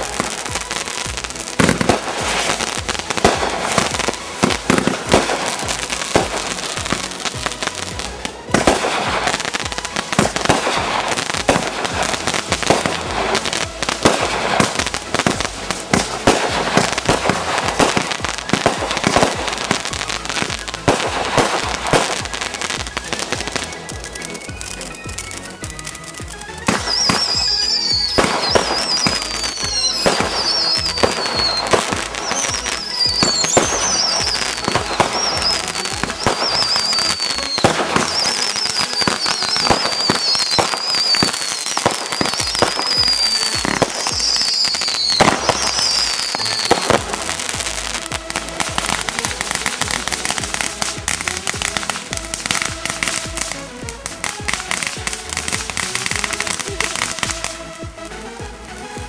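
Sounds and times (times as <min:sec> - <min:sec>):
dense firework crackle: 0:00.0 - 0:59.0
firework bangs: 0:00.0 - 0:59.0
firework whistles falling in pitch: 0:00.0 - 0:59.0.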